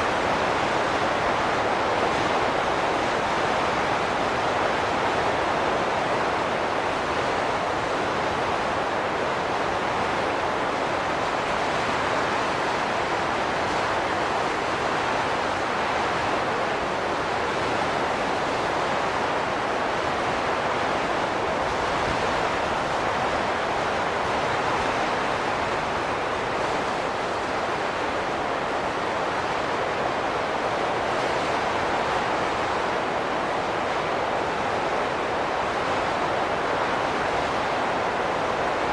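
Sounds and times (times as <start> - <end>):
wind blowing steadily: 0.0 - 38.9.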